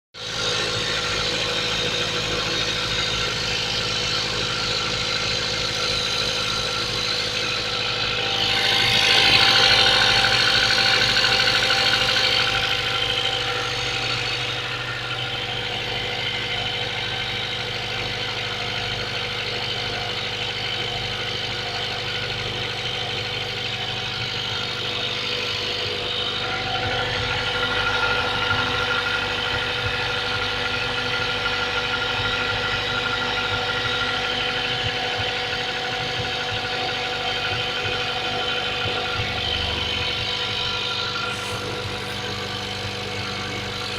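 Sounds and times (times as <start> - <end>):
engine knocking: 0.1 - 43.9
car engine idling: 0.2 - 43.9.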